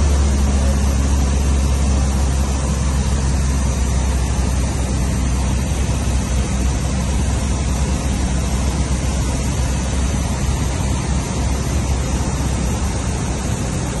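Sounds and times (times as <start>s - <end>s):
aircraft engine drone in cockpit: 0.0s - 14.0s.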